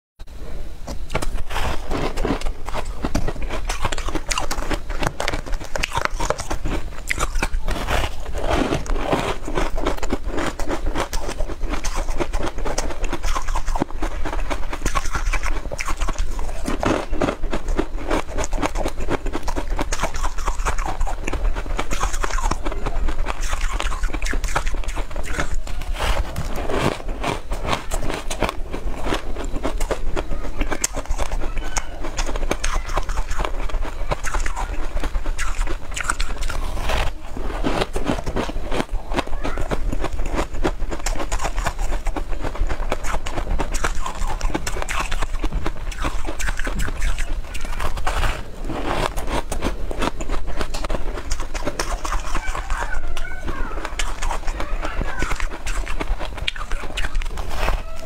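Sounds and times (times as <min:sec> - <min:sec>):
crisps crunching and crackling: 0:00.9 - 0:58.0
person chewing with mouth clicks: 0:00.9 - 0:58.0.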